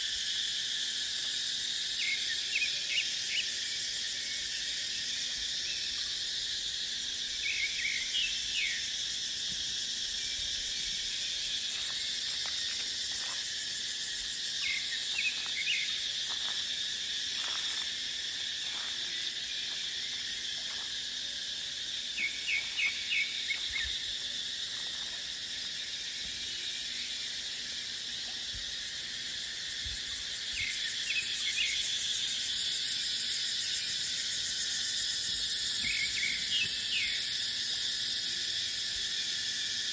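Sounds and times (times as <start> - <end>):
cicada chorus buzzing: 0.0 - 39.9.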